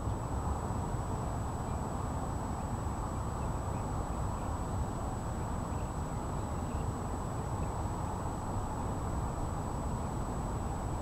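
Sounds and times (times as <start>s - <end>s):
faint high-pitched whine: 0.0s - 11.0s
low outdoor background rumble: 0.0s - 11.0s.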